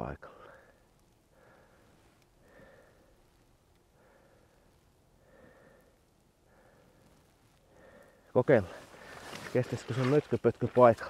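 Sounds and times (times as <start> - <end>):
faint regular breathing: 0.2 - 11.0.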